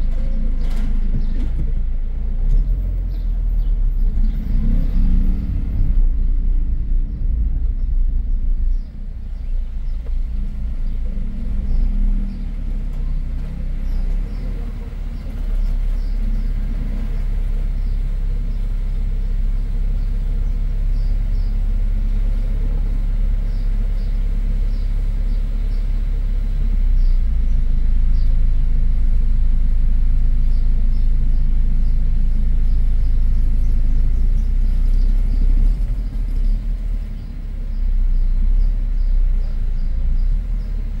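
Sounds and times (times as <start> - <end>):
car rumbling on cobblestones: 0.0 - 41.0.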